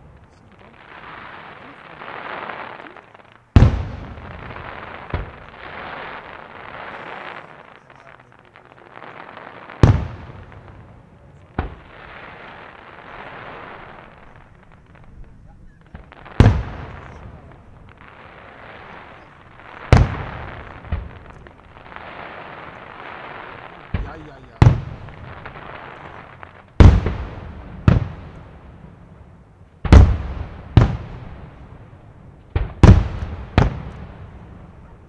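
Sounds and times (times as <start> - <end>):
sharp firework reports: 0.0 - 29.1
firework shells booming: 0.0 - 35.0
steady hiss: 0.0 - 35.0.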